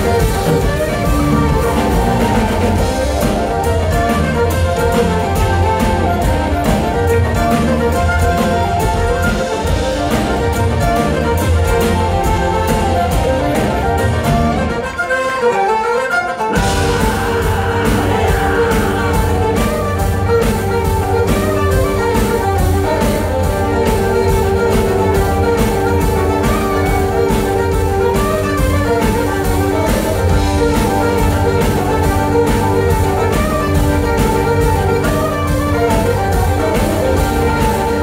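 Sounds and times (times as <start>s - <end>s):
fiddles: 0.0s - 38.0s
folk-rock band playing: 0.0s - 38.0s.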